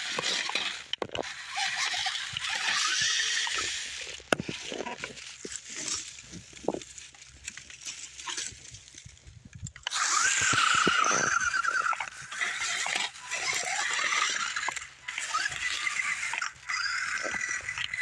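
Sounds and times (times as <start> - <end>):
chassis and tyres scraping rock: 0.0 - 18.0
toy car drivetrain whining: 0.0 - 18.0.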